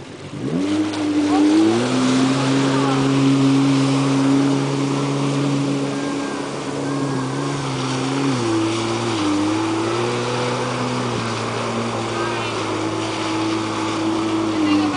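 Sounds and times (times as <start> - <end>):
jet ski engine drone: 0.0 - 14.9.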